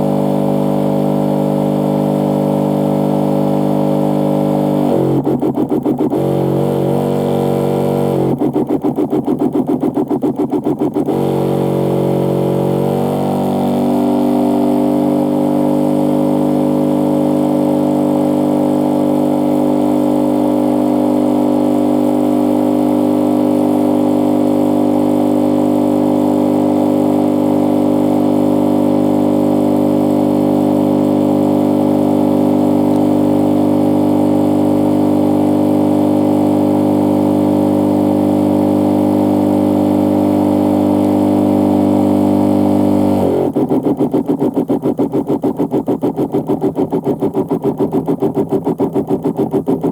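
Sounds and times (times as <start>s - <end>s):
sprayer pump motor humming: 0.0s - 49.9s.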